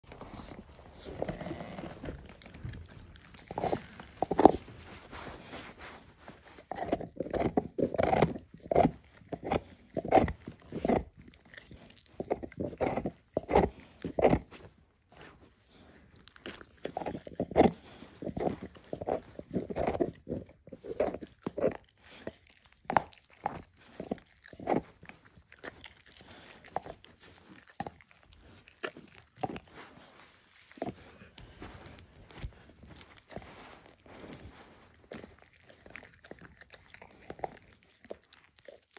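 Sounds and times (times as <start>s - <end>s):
dog licking and gnawing bone: 0.1s - 38.9s.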